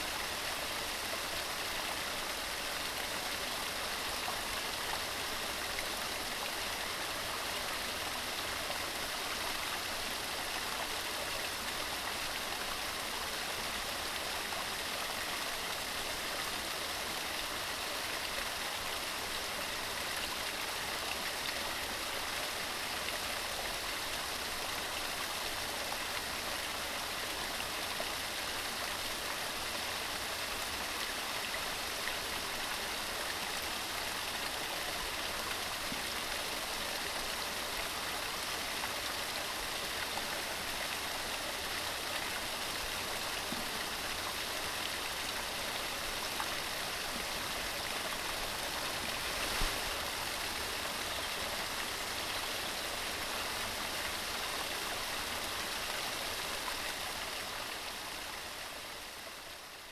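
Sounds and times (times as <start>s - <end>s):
stream running over rocks: 0.0s - 59.6s.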